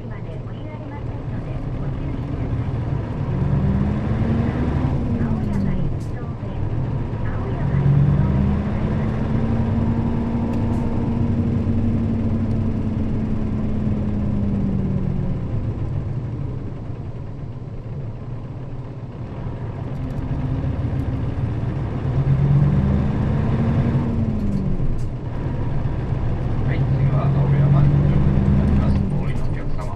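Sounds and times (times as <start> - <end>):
bus diesel engine running: 0.0 - 29.9.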